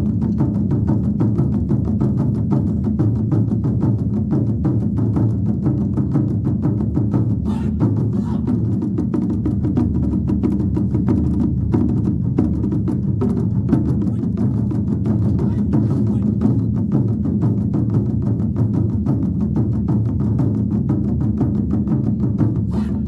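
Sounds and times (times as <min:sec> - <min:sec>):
large drums beaten fast: 0:00.0 - 0:23.0.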